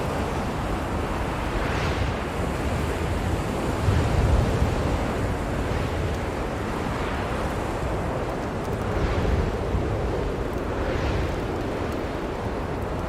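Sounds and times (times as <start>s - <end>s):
blizzard wind blowing: 0.0s - 13.0s.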